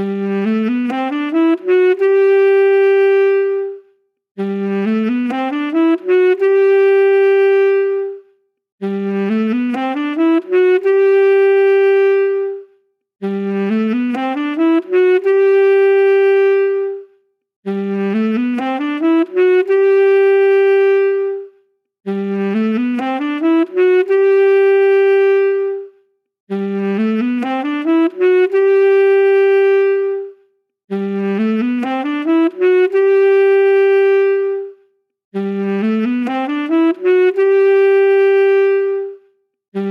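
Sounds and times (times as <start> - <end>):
solo saxophone phrase: 0.0 - 39.9.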